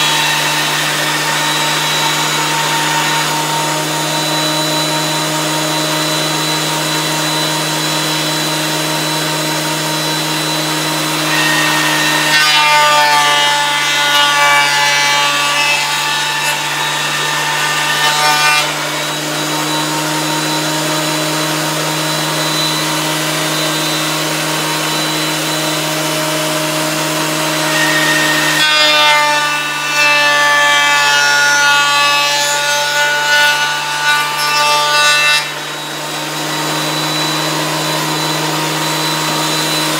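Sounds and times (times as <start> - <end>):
electric wood planer cutting boards: 0.0 - 39.9.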